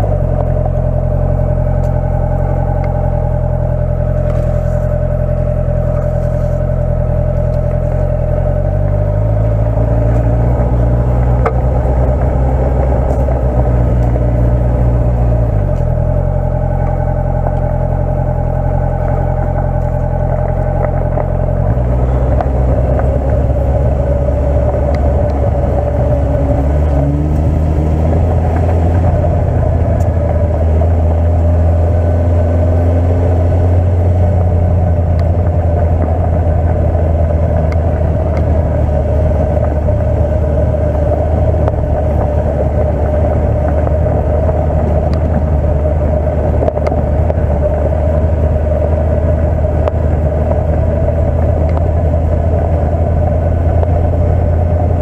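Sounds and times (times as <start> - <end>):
gravel crunching under tyres: 0.0 - 55.0
motorcycle engine at low revs: 0.0 - 55.0.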